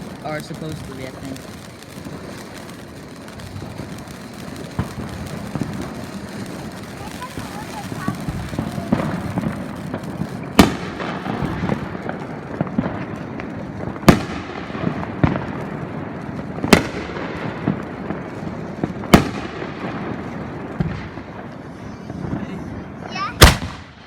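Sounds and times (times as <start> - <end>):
fireworks bangs: 0.0 - 24.0
fireworks crackle: 0.0 - 24.0
fireworks pops: 0.0 - 24.0.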